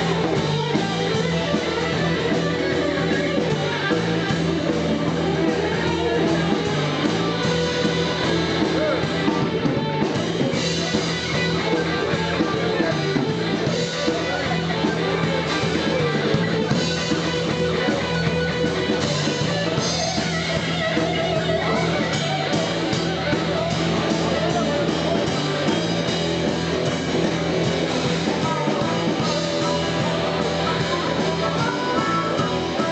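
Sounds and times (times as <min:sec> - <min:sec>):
blues-rock band playing: 0:00.0 - 0:32.9.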